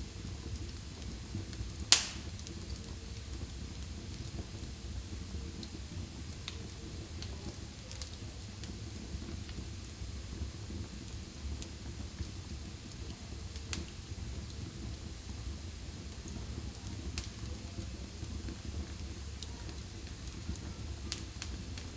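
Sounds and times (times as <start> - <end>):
fire crackling and popping: 0.0 - 21.9
fire flames rumbling: 0.0 - 21.9.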